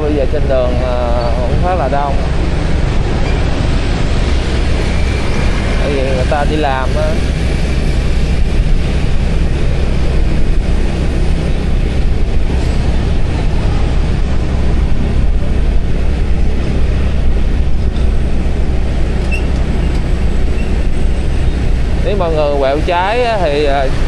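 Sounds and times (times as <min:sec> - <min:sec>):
motor scooter engine rumble: 0:00.0 - 0:24.0
wind on microphone: 0:00.0 - 0:24.0.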